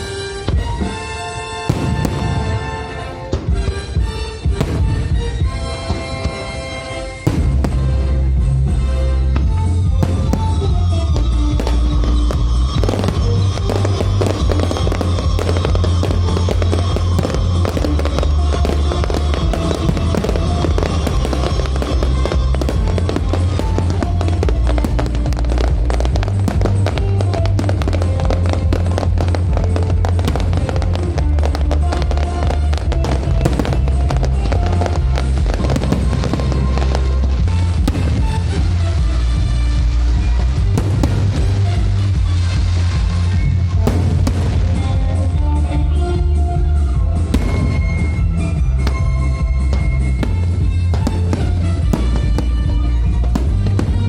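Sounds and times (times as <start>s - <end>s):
fireworks crackling and popping: 0.0s - 54.0s
show music with heavy bass: 1.7s - 54.0s.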